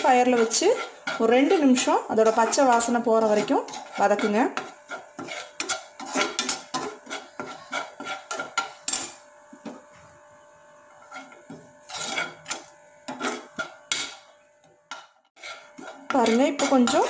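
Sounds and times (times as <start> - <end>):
metal spoon scraping a pan: 0.0 - 9.3, 10.8 - 17.0.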